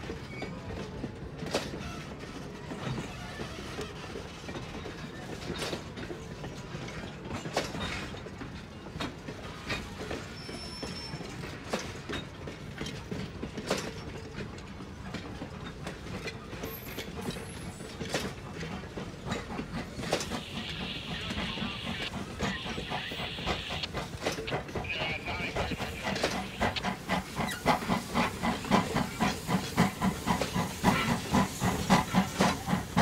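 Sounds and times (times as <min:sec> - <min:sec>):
steel wheels rumbling on rail: 0:00.0 - 0:33.0
wheels clacking over track: 0:00.2 - 0:33.0.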